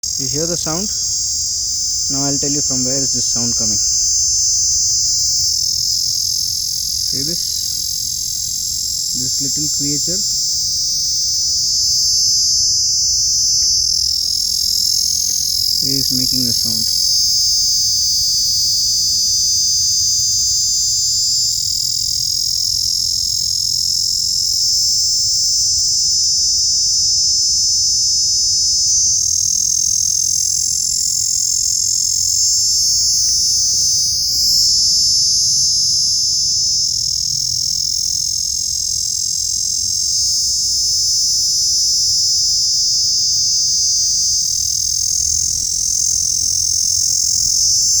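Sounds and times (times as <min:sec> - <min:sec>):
insect high-pitched buzz: 0:00.0 - 0:48.0.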